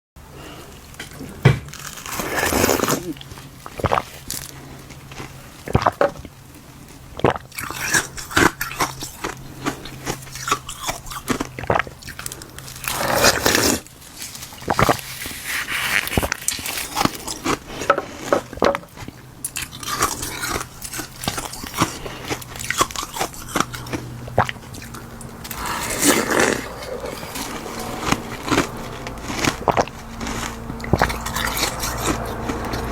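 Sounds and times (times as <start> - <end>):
ice being chewed: 0.3 - 32.9.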